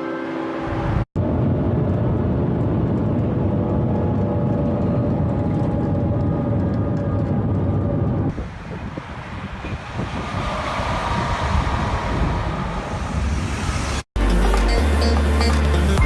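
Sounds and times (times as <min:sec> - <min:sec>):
high-speed train rumble: 0:00.0 - 0:14.3.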